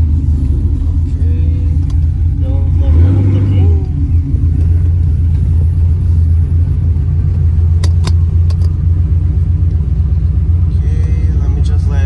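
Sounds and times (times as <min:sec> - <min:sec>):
low exhaust rumble: 0:00.0 - 0:12.0.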